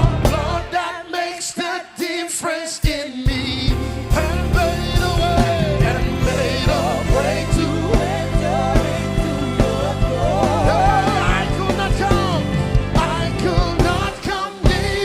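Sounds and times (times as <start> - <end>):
gospel singing over a band: 0.0 - 15.0.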